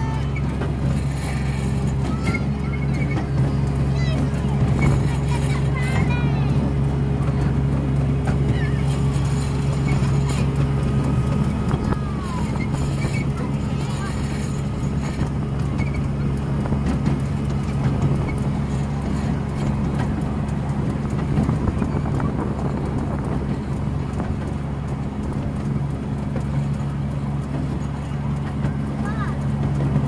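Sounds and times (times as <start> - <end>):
train engine drone: 0.0 - 30.0
wheels rumbling and clicking: 0.0 - 30.0.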